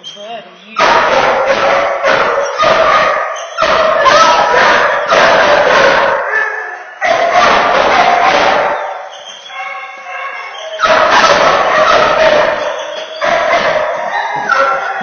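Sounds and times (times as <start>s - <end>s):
dog barking and yipping: 0.8s - 15.0s.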